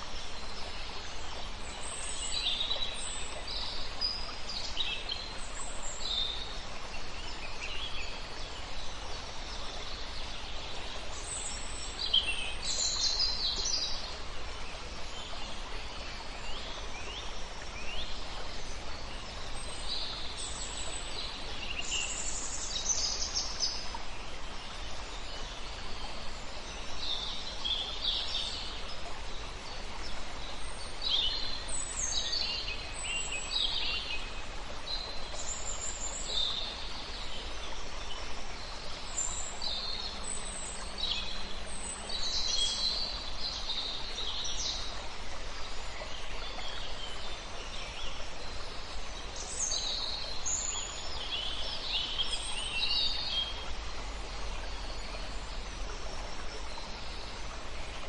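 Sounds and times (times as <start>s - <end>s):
river flowing: 0.0s - 58.0s
songbirds singing: 0.0s - 58.0s.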